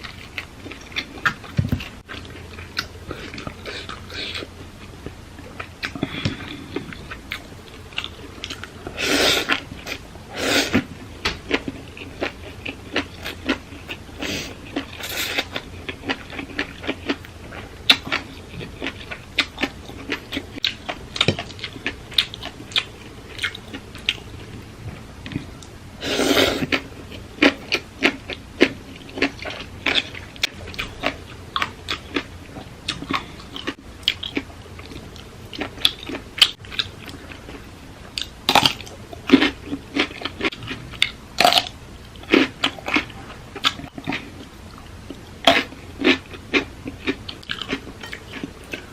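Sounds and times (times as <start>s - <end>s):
person chewing and crunching food: 0.0s - 48.9s.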